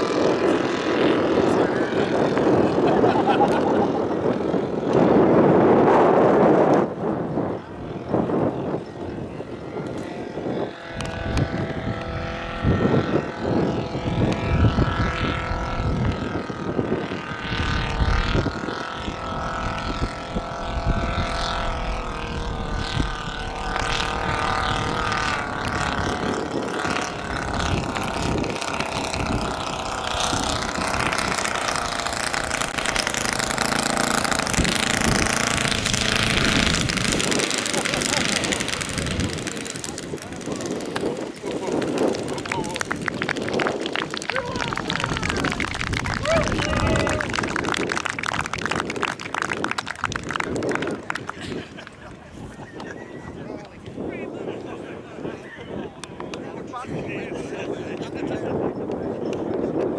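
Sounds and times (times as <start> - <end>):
model aircraft engine droning: 0.0 - 59.9.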